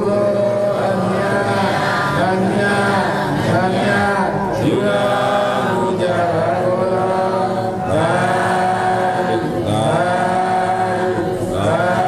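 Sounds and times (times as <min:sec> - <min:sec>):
man chanting: 0:00.0 - 0:12.0.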